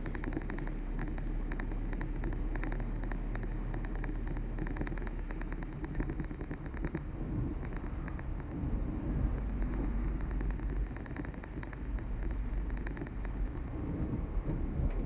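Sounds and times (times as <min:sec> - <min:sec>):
car engine and road rumble: 0:00.0 - 0:15.0
small ticks: 0:00.0 - 0:15.0.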